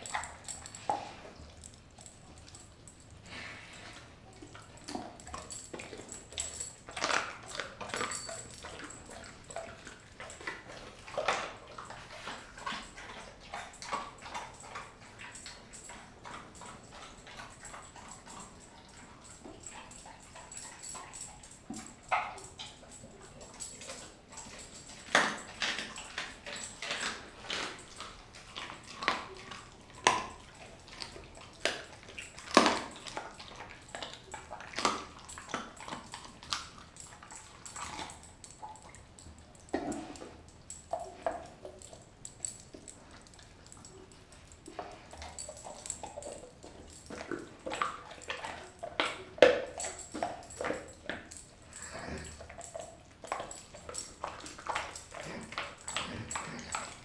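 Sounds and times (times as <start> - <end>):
dog chewing wetly: 0.0 - 57.0.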